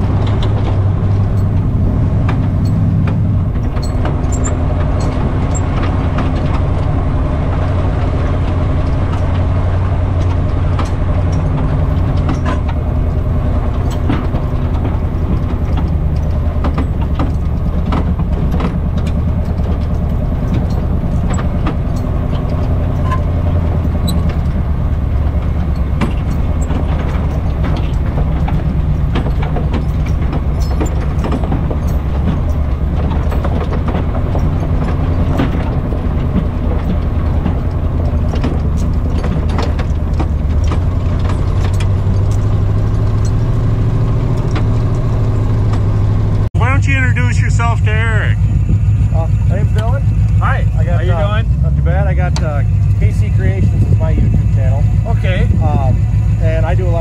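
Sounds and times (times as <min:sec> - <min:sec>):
tow chains clanking and rattling: 0:00.0 - 0:57.0
truck engine under load: 0:00.0 - 0:57.0.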